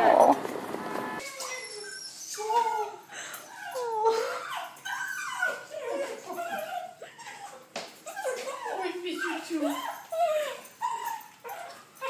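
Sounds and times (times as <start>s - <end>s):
small dog whining and whimpering: 1.2s - 12.0s.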